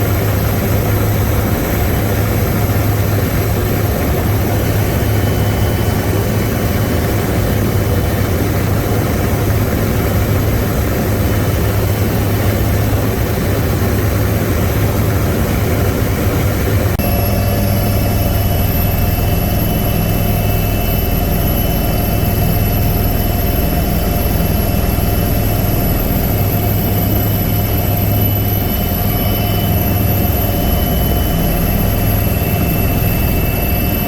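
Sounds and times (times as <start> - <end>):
helicopter engine and rotor drone: 0.0 - 34.0.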